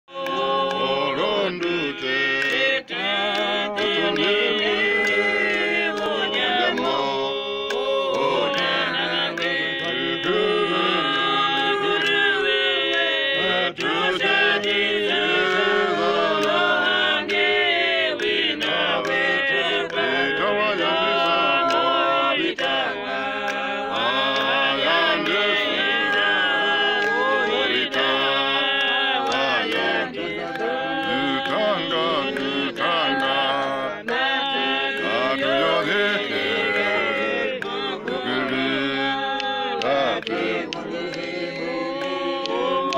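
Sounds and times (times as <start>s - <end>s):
group singing a hymn: 0.1s - 42.9s.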